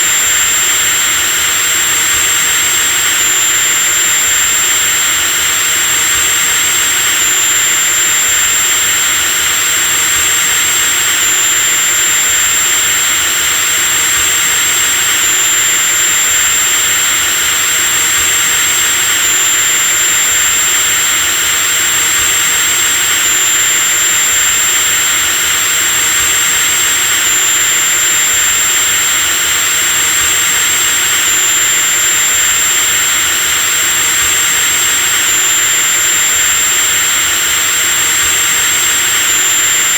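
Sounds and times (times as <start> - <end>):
electric drill whine: 0.0 - 39.9.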